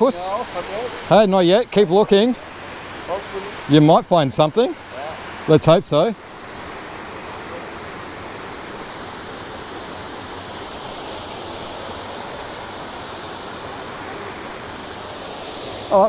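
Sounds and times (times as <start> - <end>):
water falling over rocks: 0.0 - 16.0.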